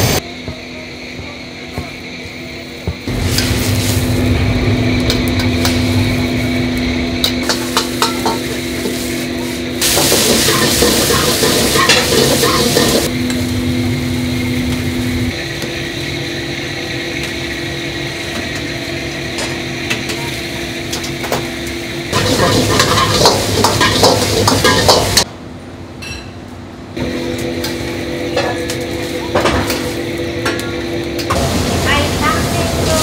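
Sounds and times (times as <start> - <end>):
vegetables sizzling in a wok: 3.1 - 25.3, 27.0 - 33.0.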